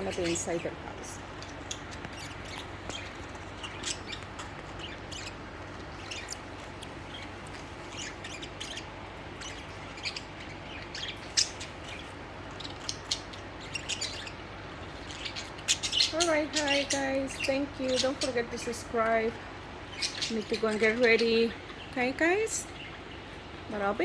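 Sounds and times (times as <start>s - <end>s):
budgerigars chirping: 0.0s - 24.0s
steady low hum: 0.0s - 24.0s.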